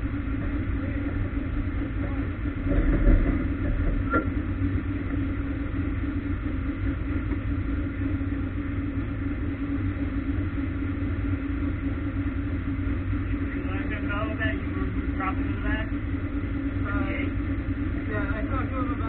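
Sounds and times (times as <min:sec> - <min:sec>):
race car engine rumbling: 0:00.0 - 0:19.0.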